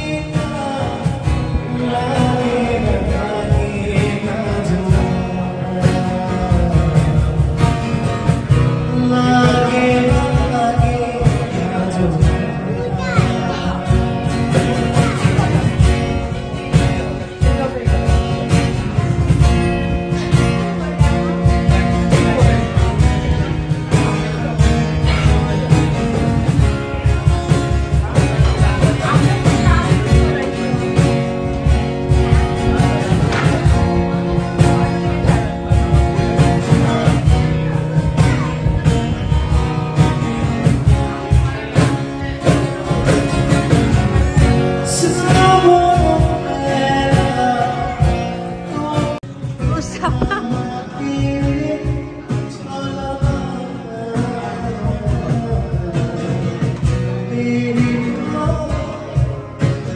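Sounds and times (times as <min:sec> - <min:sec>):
steady drum beat: 0:00.0 - 0:52.6
guitar: 0:00.0 - 0:59.9
man singing into a microphone: 0:00.0 - 0:59.9.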